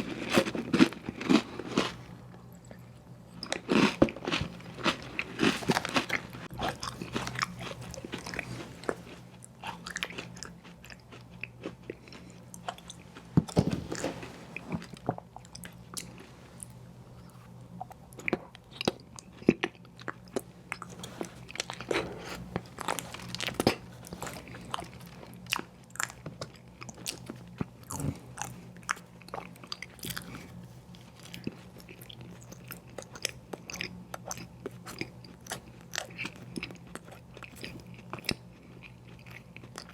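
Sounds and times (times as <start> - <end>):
steady low hum: 0.0 - 39.9
biting and wet chewing: 3.4 - 39.9.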